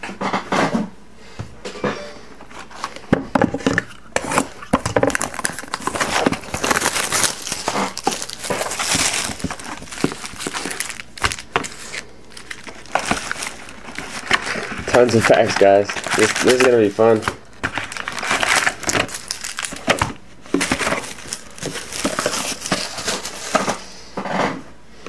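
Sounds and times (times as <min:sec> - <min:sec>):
crinkling of card pack wrappers: 0:02.6 - 0:23.9.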